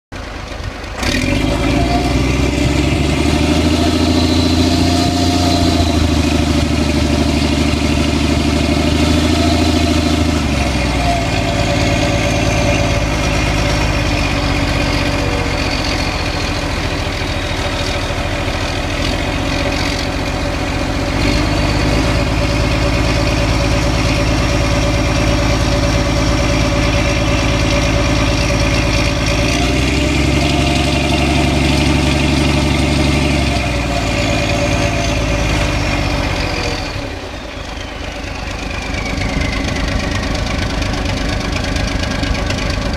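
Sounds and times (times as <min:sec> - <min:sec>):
diesel truck engine running: 0:00.1 - 0:42.9
turbocharger whistle: 0:01.0 - 0:42.5.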